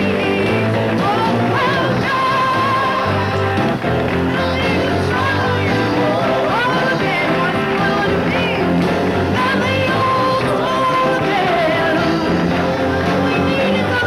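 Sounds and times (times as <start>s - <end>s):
woman singing with vibrato: 0.0s - 3.5s, 4.3s - 14.0s
rock and roll band playing: 0.0s - 14.0s.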